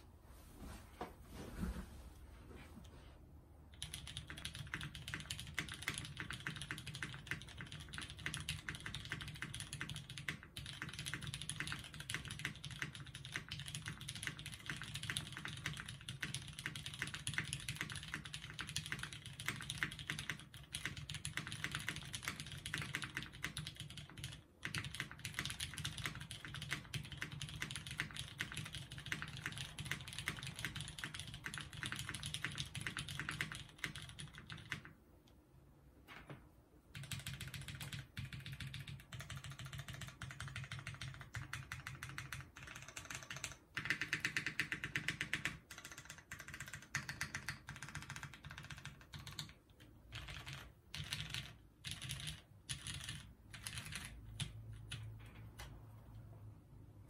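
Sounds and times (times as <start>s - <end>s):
fast mechanical keyboard typing: 3.7s - 35.0s, 36.9s - 55.7s.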